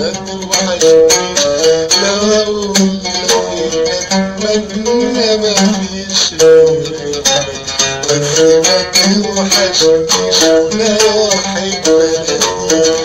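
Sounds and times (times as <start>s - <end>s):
oud plucking melody: 0.0s - 13.0s.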